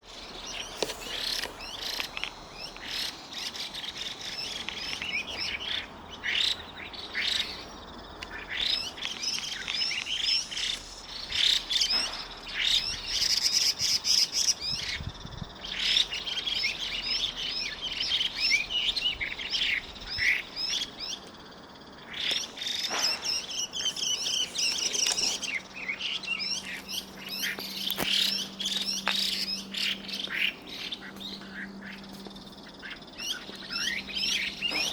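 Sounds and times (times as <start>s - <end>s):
birds singing whistled notes: 0.0s - 34.9s.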